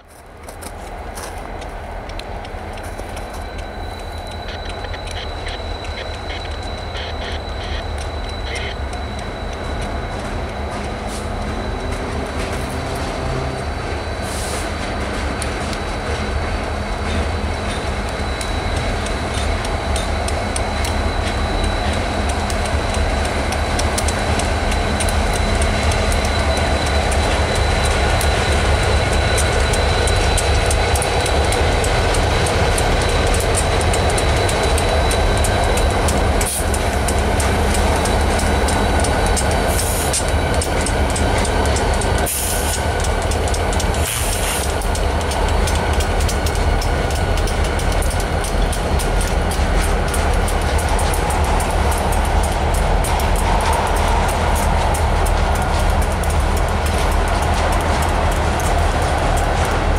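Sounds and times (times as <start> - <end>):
diesel locomotives rumbling: 0.0 - 59.9
wheels clicking over rail joints: 0.0 - 59.9.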